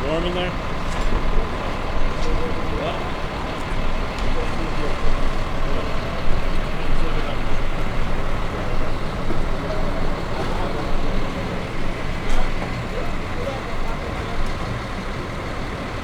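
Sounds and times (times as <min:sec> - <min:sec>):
busy street traffic: 0:00.0 - 0:16.0
heavy diesel engines rumbling: 0:00.0 - 0:16.0.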